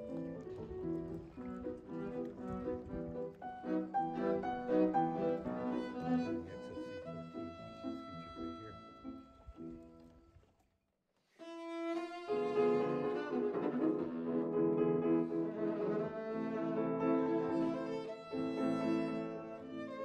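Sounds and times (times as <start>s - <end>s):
bowed string music: 0.0s - 10.0s, 11.4s - 20.0s.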